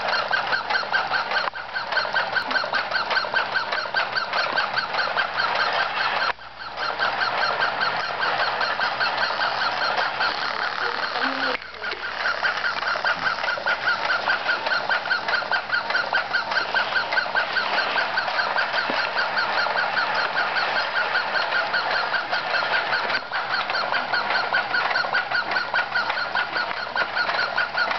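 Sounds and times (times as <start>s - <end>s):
whirring rattle: 0.0s - 27.9s
wind-up toy squeaking: 0.0s - 27.9s.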